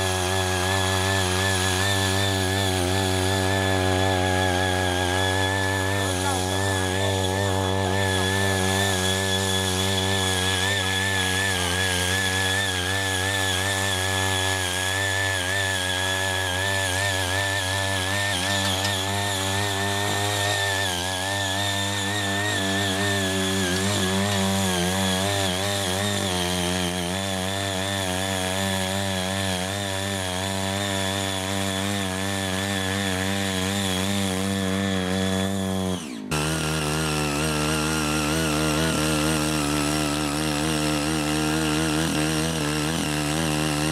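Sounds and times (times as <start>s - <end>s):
cultivator engine running: 0.0s - 43.9s.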